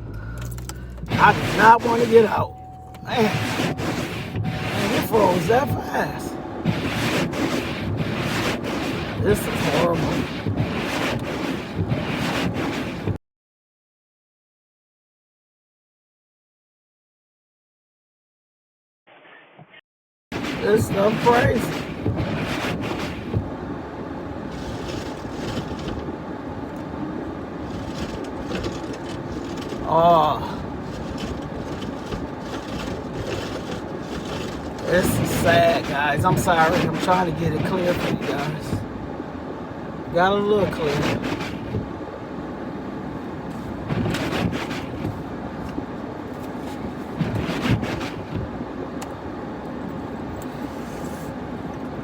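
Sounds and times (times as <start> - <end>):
car engine rumble inside car: 0.0 - 13.2, 20.4 - 52.0.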